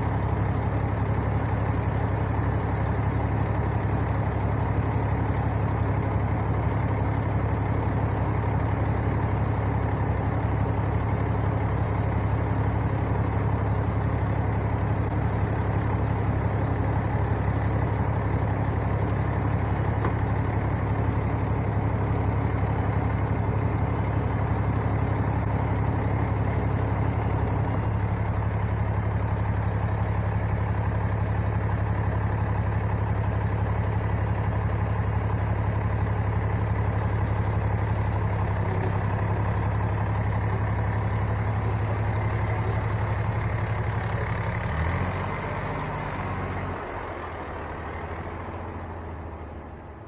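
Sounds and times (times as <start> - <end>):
diesel truck engine running: 0.0 - 50.0.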